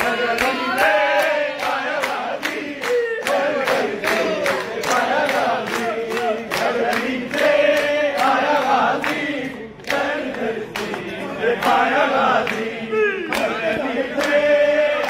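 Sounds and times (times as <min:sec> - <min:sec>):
hand claps: 0:00.0 - 0:15.0
men chanting in unison: 0:00.0 - 0:15.0.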